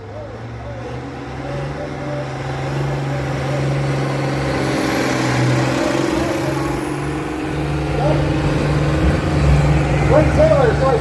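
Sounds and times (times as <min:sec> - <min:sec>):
tractor pull engine running: 0:00.0 - 0:11.0.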